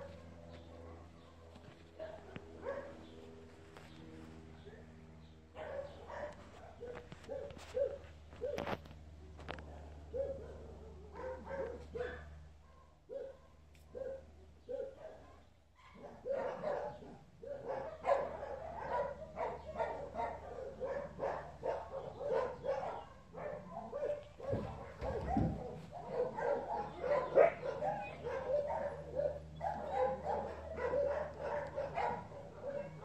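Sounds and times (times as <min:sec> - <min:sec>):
dogs barking and yipping: 0:00.0 - 0:03.0, 0:05.5 - 0:08.8, 0:09.5 - 0:33.0.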